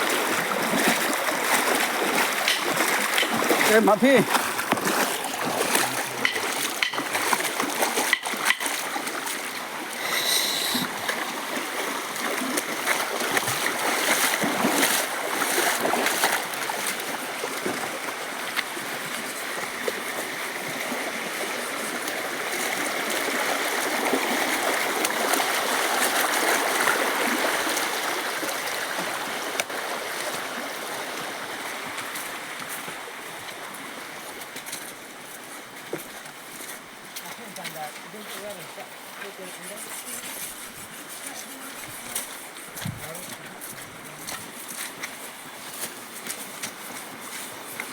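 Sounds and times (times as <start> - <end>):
stream water running: 0.0 - 47.9
water splashing: 0.0 - 47.9.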